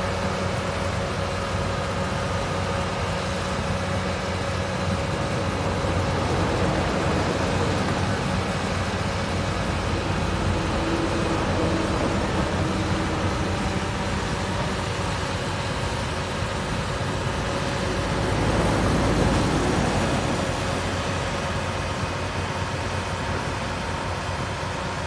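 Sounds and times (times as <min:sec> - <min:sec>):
diesel excavator engine running: 0:00.0 - 0:25.0.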